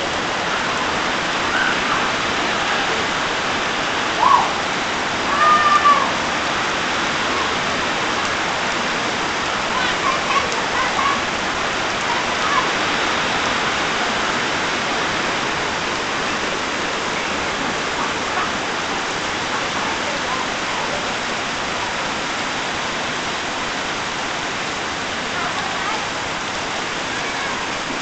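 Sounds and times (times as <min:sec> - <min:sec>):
heavy rain on foliage: 0:00.0 - 0:28.0.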